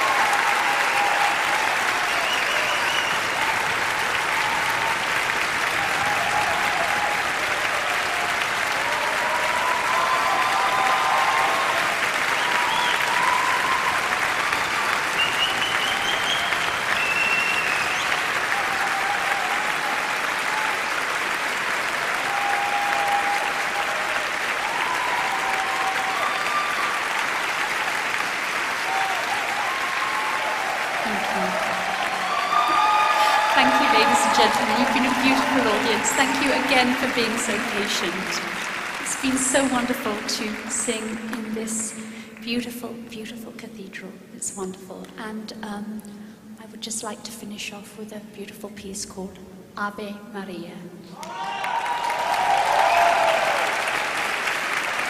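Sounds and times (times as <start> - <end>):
audience applauding: 0.0 - 42.4, 51.2 - 55.0.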